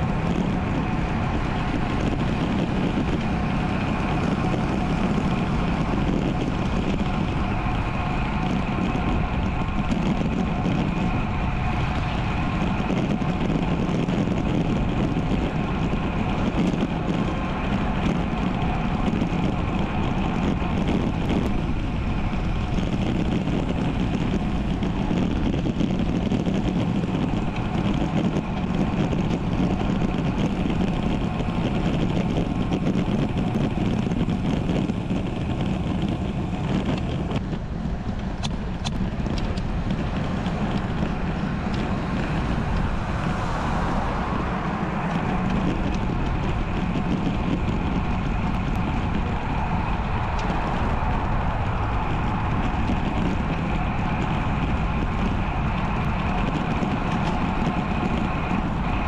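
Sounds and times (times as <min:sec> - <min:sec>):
bike road noise: 0:00.0 - 0:59.0
wind rush: 0:00.0 - 0:59.0.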